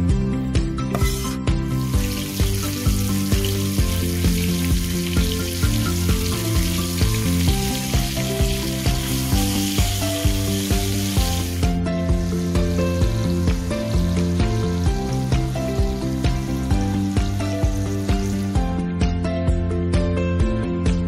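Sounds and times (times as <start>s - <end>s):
background music with steady beat: 0.0s - 21.0s
vegetables sizzling in oil: 1.0s - 18.6s.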